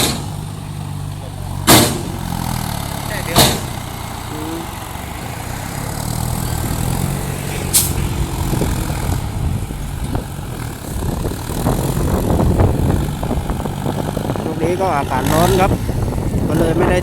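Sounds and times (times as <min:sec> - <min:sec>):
diesel machinery engine drone: 0:00.0 - 0:17.0.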